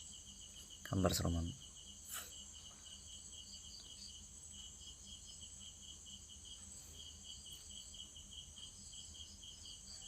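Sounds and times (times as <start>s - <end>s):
crickets chirping: 0.0s - 10.0s
high insect drone: 0.0s - 10.0s.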